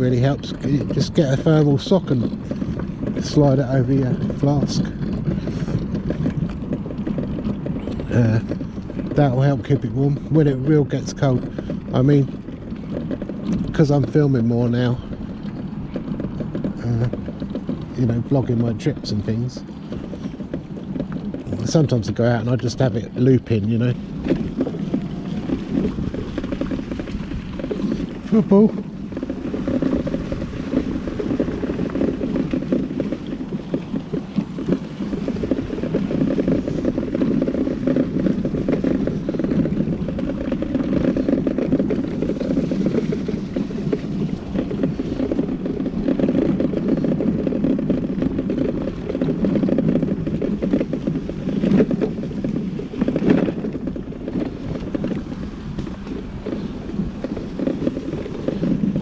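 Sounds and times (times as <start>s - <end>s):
mobility scooter motor rumble: 0.0s - 59.0s
tyres rolling on path: 0.0s - 59.0s.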